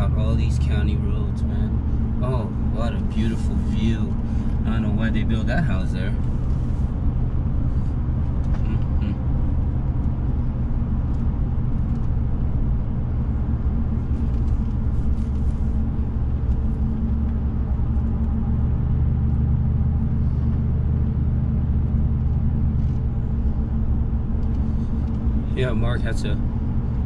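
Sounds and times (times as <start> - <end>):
car engine and road hum: 0.0 - 27.0.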